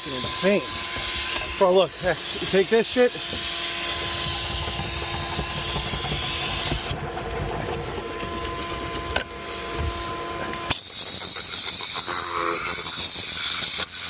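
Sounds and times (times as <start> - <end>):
steam cleaner hissing: 0.0 - 7.0, 9.4 - 14.0.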